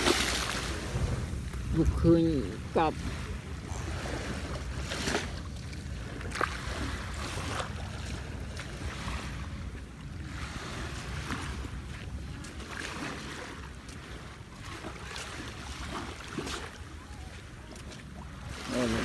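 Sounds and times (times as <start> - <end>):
small waves washing onto beach: 0.0 - 19.0
wind rumble on microphone: 0.0 - 19.0.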